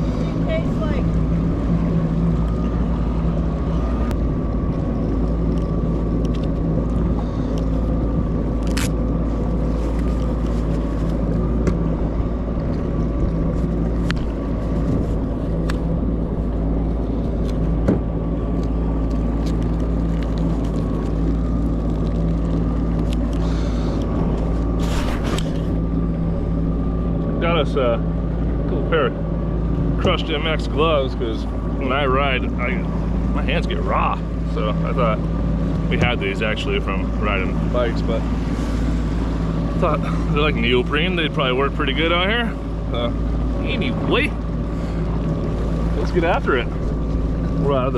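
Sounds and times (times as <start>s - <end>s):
jet ski engine running: 0.0s - 47.9s.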